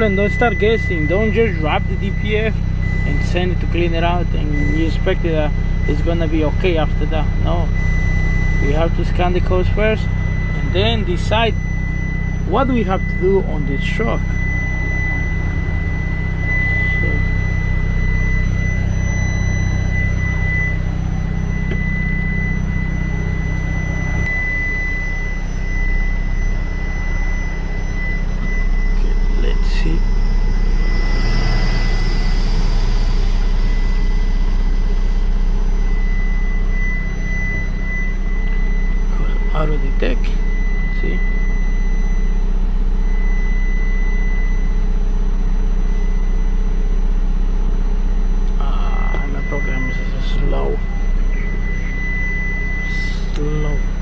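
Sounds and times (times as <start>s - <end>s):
thin high tone: 0.0s - 41.5s, 48.5s - 54.0s
diesel truck engine idling: 0.0s - 43.3s, 44.6s - 54.0s.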